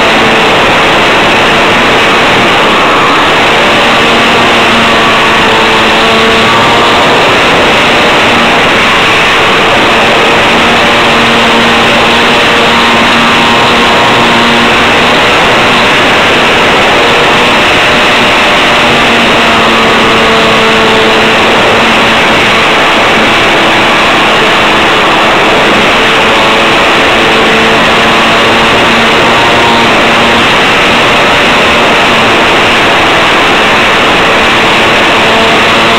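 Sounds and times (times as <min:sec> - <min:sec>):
model plane motor droning: 0:00.0 - 0:35.9
rushing air: 0:00.0 - 0:35.9.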